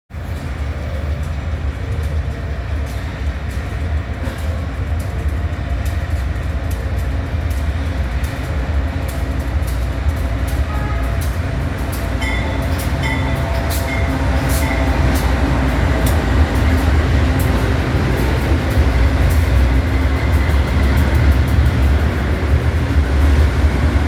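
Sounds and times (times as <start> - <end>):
freight train rumbling past: 0.1 - 24.0
wheels clicking on rails: 0.2 - 24.0.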